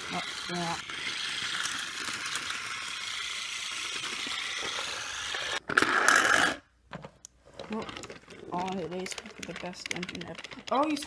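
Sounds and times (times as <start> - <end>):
toy train motor whirring: 0.0 - 6.6, 7.7 - 11.0.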